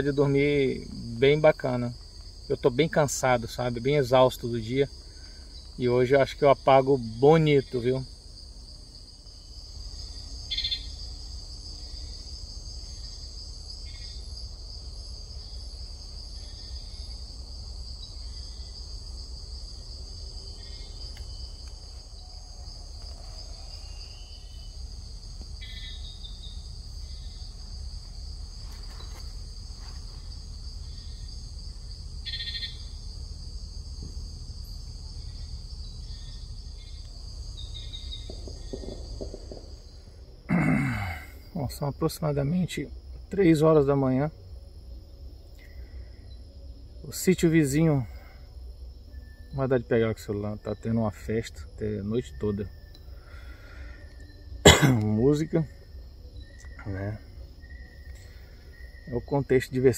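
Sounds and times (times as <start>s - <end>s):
high-pitched insect trill: 0.0s - 59.9s
insect chirps: 0.0s - 59.9s.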